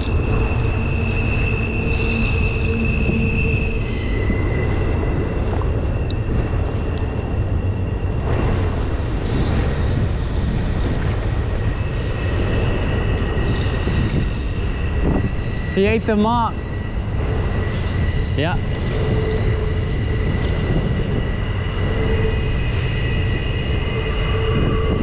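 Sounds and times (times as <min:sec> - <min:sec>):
high-pitched wheel squeal: 0:00.0 - 0:10.6, 0:11.6 - 0:16.0, 0:17.5 - 0:25.0
freight train rumbling past: 0:00.0 - 0:25.0.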